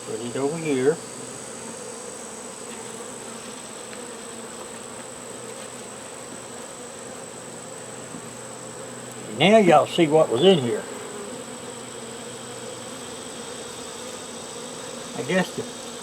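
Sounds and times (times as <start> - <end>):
honey bees buzzing: 0.0 - 16.0.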